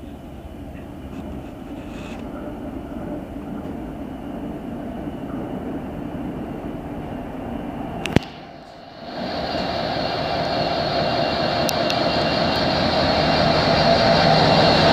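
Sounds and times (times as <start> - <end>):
diesel locomotive engine rumbling: 0.0 - 14.9.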